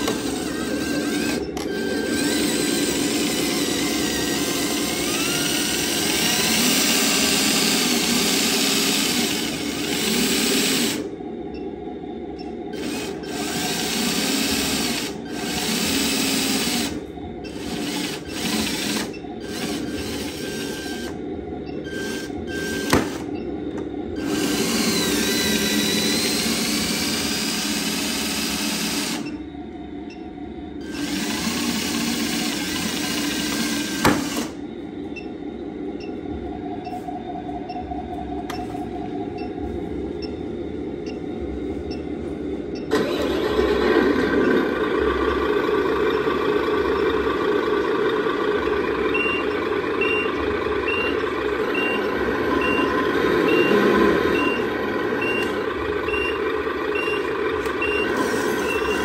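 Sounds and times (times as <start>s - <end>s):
electric hydraulic pump whining: 0.0s - 30.0s, 30.6s - 35.4s, 42.8s - 59.0s.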